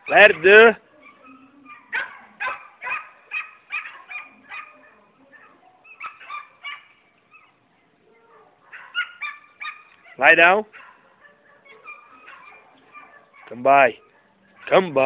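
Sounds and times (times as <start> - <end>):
dog barking: 0.8 - 15.0.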